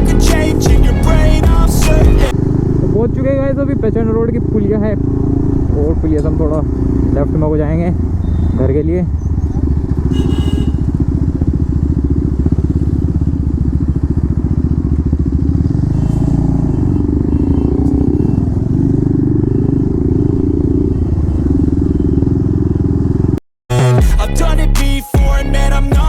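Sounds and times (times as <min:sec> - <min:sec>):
motorcycle exhaust beat: 0:00.0 - 0:26.0.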